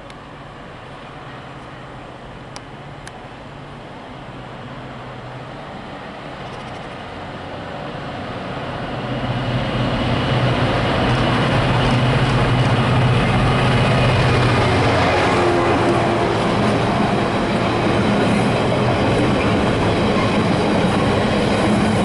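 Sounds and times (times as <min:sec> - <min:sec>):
diesel locomotive engine drone: 0:00.0 - 0:22.0
rail noise: 0:00.0 - 0:22.0.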